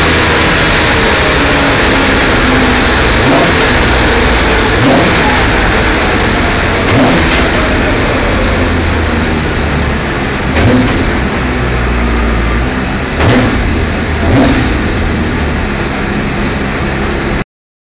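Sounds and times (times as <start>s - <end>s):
race car engine roaring: 0.0s - 17.4s.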